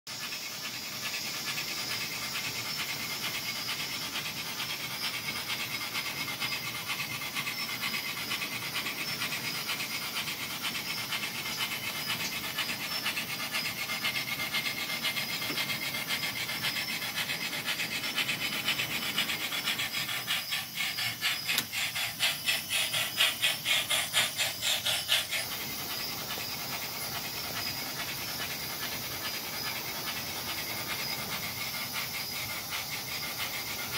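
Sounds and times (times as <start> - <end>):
model steam locomotive chuffing: 0.1 - 33.9.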